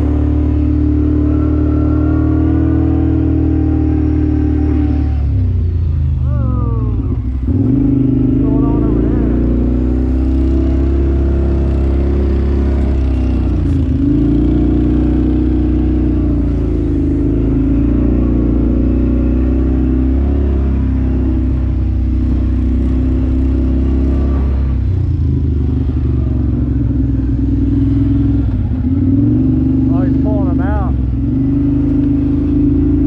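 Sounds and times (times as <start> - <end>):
vehicle engine revving: 0.0 - 33.0.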